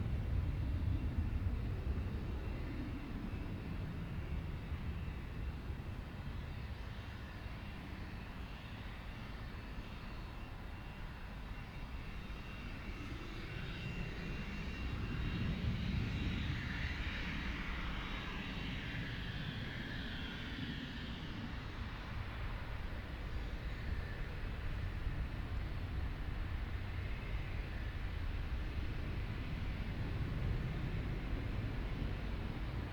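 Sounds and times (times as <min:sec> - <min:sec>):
jet engines rumbling with high whine: 0:00.0 - 0:32.9.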